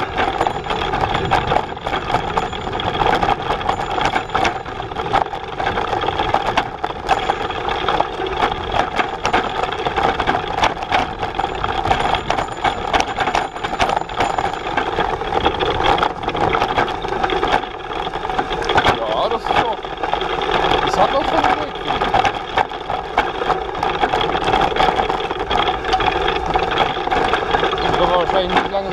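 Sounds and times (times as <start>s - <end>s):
cargo bike rattling on trail: 0.0s - 28.9s.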